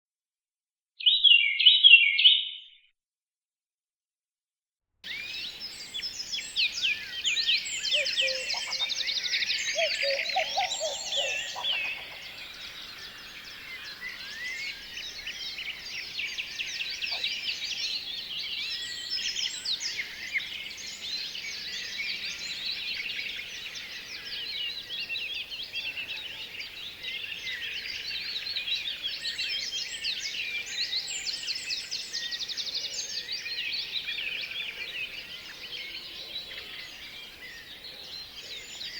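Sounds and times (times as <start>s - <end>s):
birds chirping and twittering: 5.1s - 38.9s.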